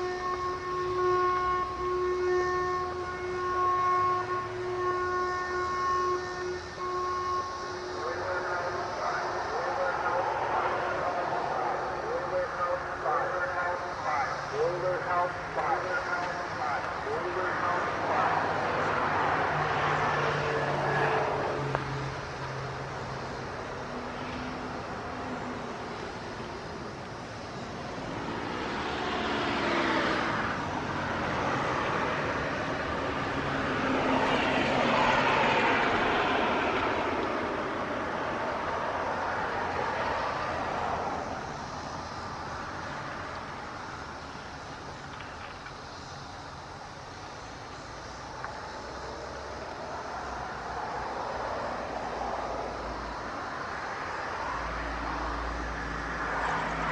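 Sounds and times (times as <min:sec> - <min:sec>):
distant warning sirens: 0:00.0 - 0:56.9
vehicle passing: 0:02.9 - 0:45.2, 0:48.5 - 0:56.9.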